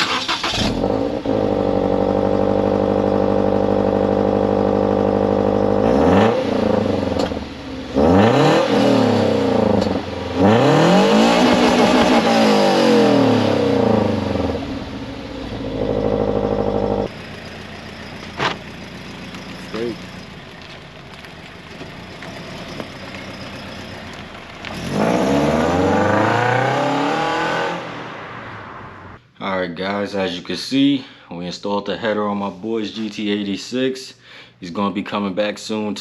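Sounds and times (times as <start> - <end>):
car engine idling and revving: 0.0 - 29.2.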